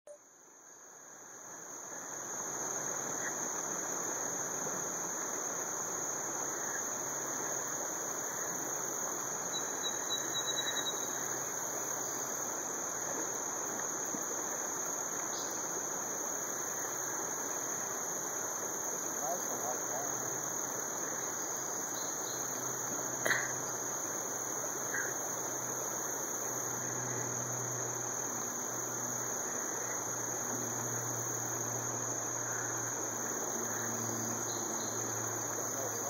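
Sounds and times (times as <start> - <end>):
high-pitched insect drone: 1.1 - 36.0.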